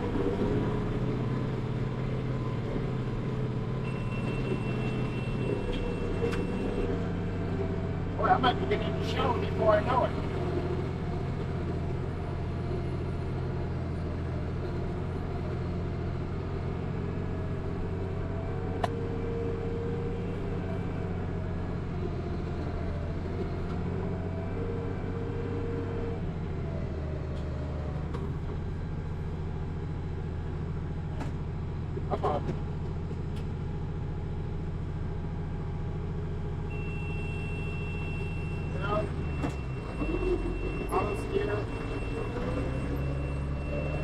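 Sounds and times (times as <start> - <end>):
tractor diesel engine drone: 0.0 - 44.0.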